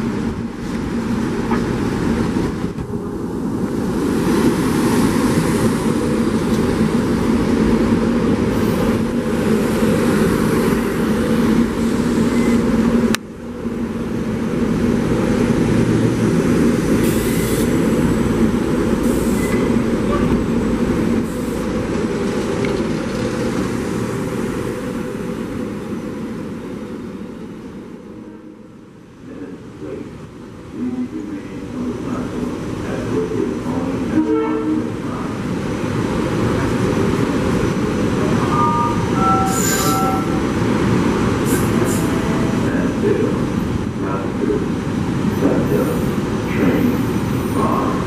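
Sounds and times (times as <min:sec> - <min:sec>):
train hum: 0:00.0 - 0:48.0
train wheels rumbling on rail: 0:00.0 - 0:48.0.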